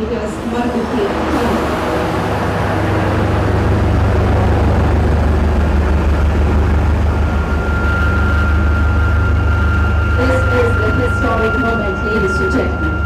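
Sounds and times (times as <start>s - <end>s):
heavy engine rumbling: 0.0s - 13.0s
thin high tone: 0.0s - 13.0s.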